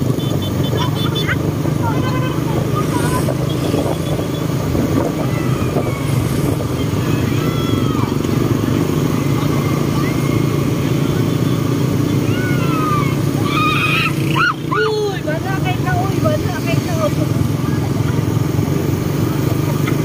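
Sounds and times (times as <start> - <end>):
motorcycle engines droning: 0.0 - 20.0
road and wind noise: 0.0 - 20.0.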